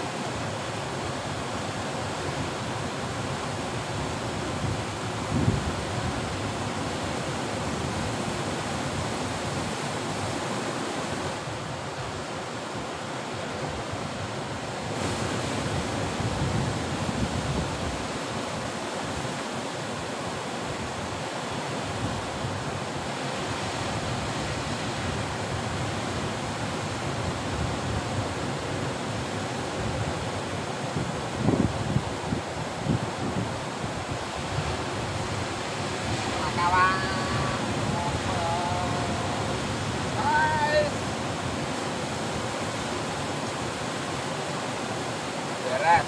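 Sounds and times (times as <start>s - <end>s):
ocean surf breaking on beach: 0.0s - 46.0s.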